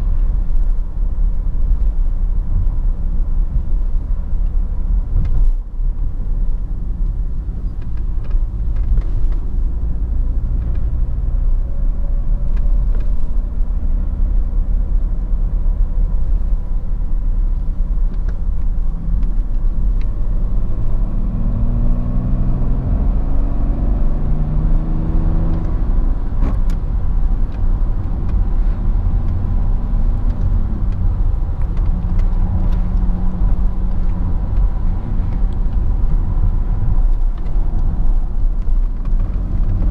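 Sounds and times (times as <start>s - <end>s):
car engine driving: 0.0s - 39.9s
road and tyre rumble: 0.0s - 39.9s.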